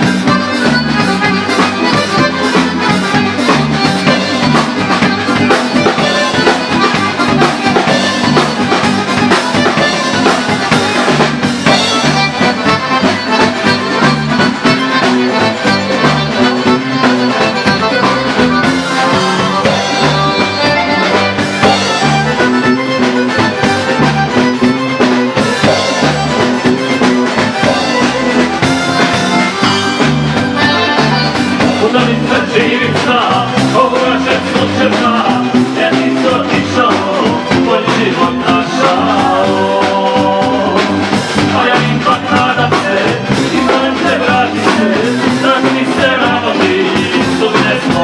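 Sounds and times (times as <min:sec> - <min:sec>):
piano accordion: 0:00.0 - 0:47.5
drum kit: 0:00.0 - 0:48.0
electric bass: 0:00.0 - 0:48.0
plucked tamburicas: 0:00.0 - 0:48.0.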